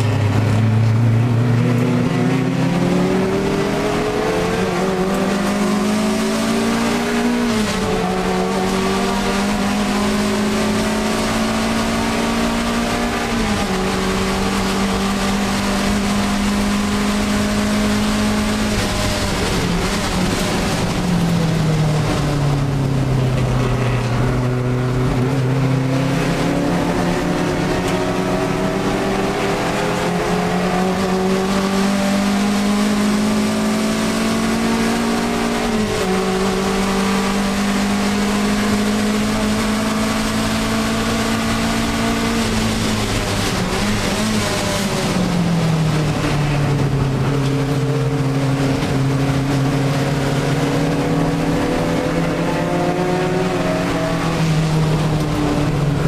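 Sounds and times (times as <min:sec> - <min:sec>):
car engine at racing revs: 0:00.0 - 0:56.0.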